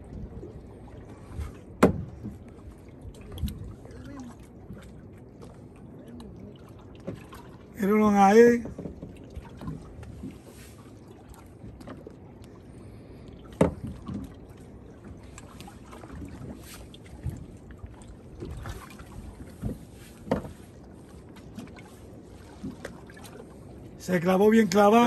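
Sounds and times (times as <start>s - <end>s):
knocks and clicks on boat: 0.0s - 10.5s, 11.1s - 12.6s, 13.2s - 23.6s
sea water washing: 0.0s - 25.0s
wind: 0.0s - 25.0s.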